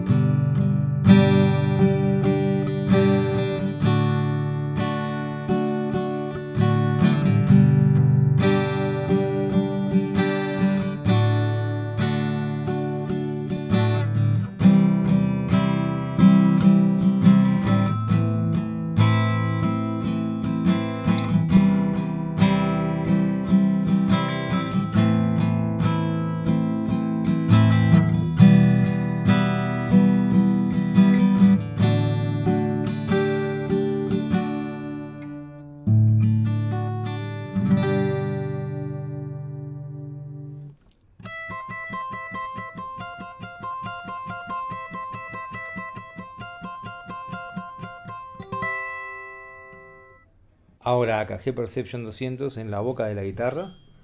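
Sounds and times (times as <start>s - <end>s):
acoustic guitar strumming chords: 0.0s - 51.4s.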